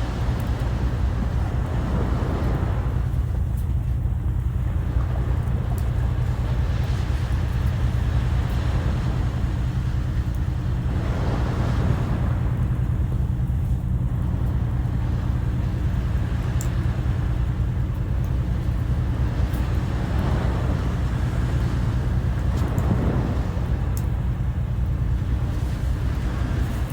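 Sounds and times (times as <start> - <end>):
sea waves washing ashore: 0.0 - 26.9
wind rumble on microphone: 0.0 - 26.9.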